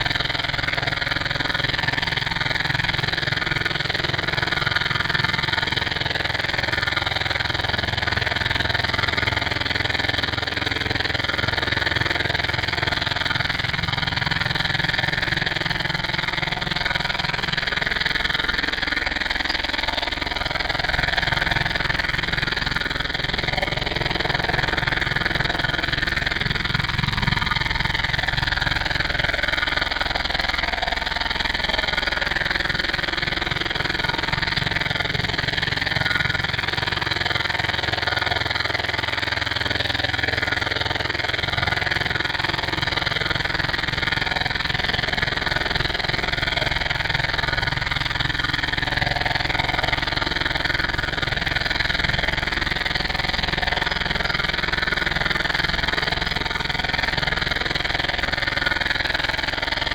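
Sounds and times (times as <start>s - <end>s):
engine-like drone: 0.0s - 59.9s.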